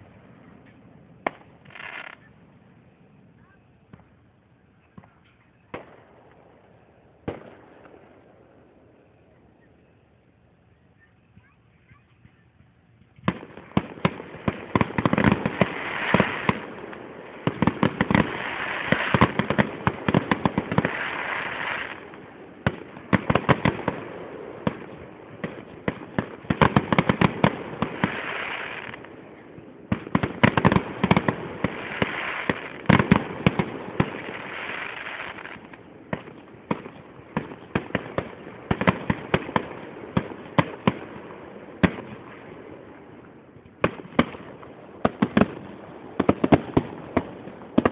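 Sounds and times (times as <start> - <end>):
fireworks bursting and crackling: 0.0 - 10.0, 11.0 - 47.9.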